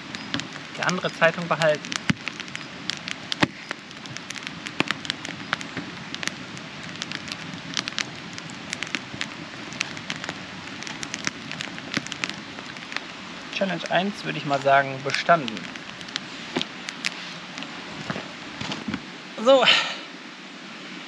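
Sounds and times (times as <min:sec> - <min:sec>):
campfire crackling and popping: 0:00.0 - 0:19.6
fire hiss: 0:00.0 - 0:20.8.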